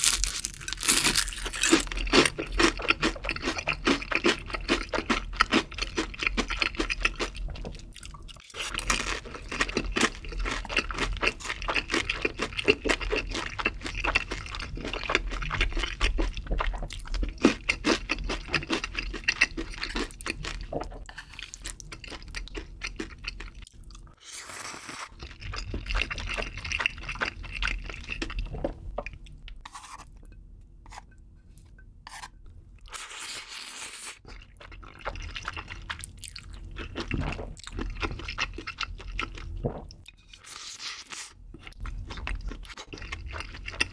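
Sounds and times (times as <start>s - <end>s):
chewing and crunching food: 0.0s - 30.2s, 31.6s - 43.9s.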